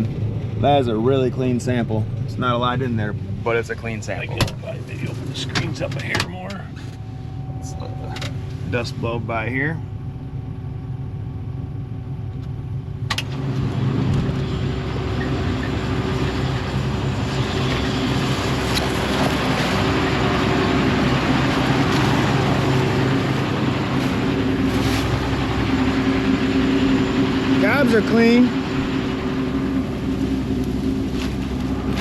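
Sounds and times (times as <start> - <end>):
combine harvester drone: 0.0 - 32.0.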